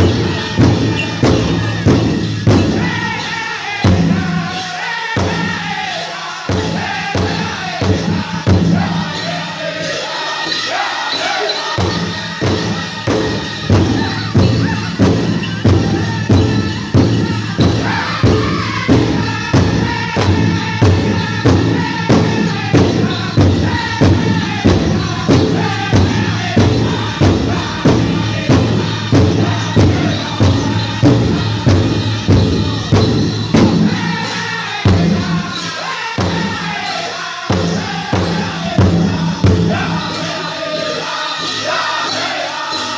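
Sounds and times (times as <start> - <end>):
large drum steady beat: 0.0 - 4.6, 5.2 - 5.8, 6.5 - 9.5, 11.8 - 35.6, 36.2 - 36.8, 37.5 - 40.4
voices singing together: 0.0 - 42.9.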